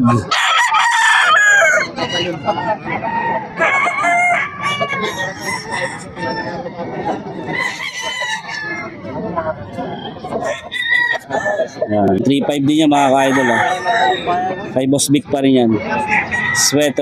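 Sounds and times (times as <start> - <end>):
roosters crowing: 0.0 - 14.9, 15.8 - 17.0
chickens clucking: 0.0 - 17.0.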